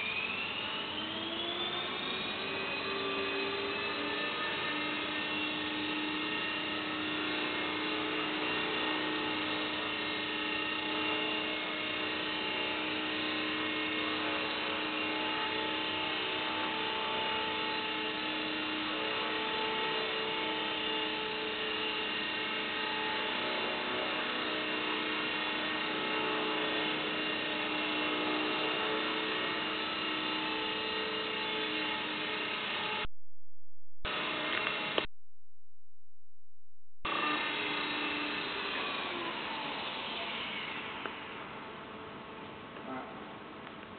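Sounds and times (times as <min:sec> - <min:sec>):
toy helicopter motor whine: 0:00.0 - 0:33.1, 0:37.1 - 0:41.6.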